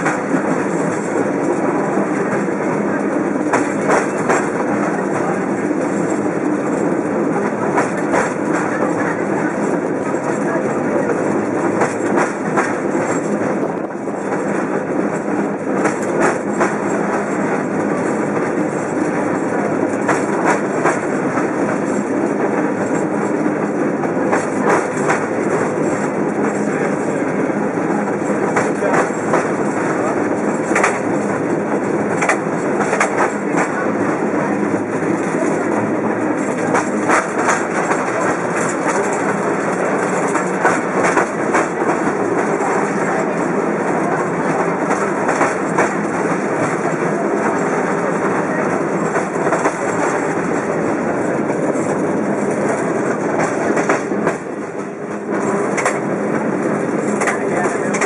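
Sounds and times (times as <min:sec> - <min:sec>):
cable car clattering rumble: 0:00.0 - 0:58.0.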